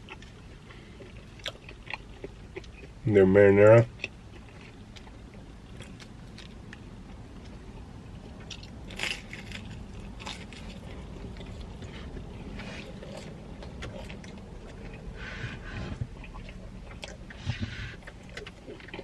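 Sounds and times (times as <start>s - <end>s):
person chewing pizza: 0.0s - 3.0s, 3.6s - 19.0s
low background hum: 0.0s - 19.0s.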